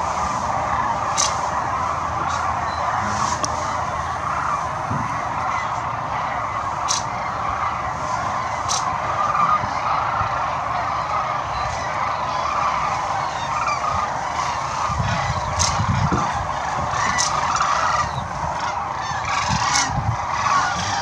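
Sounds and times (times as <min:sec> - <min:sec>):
flock of cranes calling: 0:00.0 - 0:21.0.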